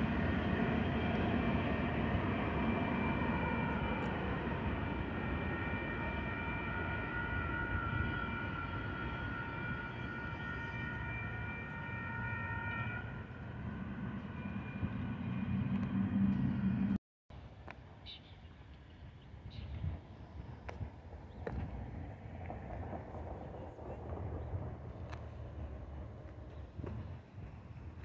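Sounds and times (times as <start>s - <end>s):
freight train rumbling past: 0.0s - 17.0s, 20.0s - 28.0s
road traffic: 0.0s - 18.3s, 20.0s - 28.0s.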